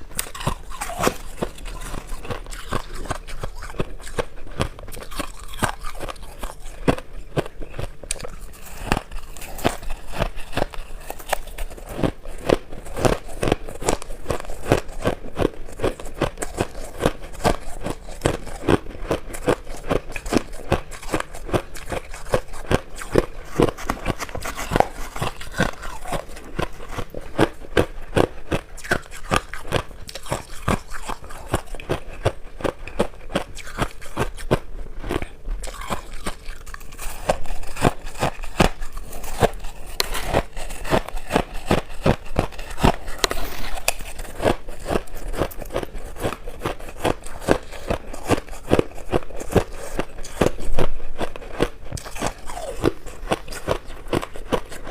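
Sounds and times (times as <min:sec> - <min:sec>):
chewing crunchy ice: 0:00.0 - 0:54.9.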